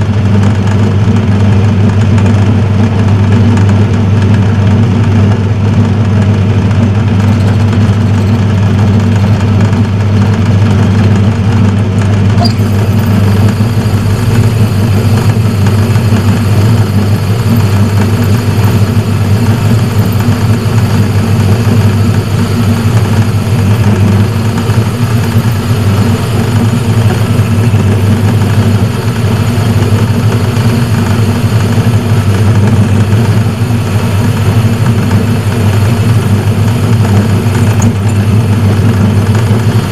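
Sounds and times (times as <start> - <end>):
lathe motor humming: 0.0 - 39.9.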